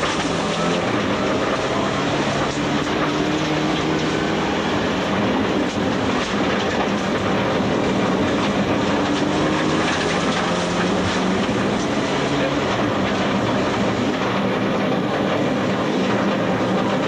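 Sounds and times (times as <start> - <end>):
rally car engine revving: 0.0 - 17.0
tyres roaring on gravel: 0.0 - 17.0.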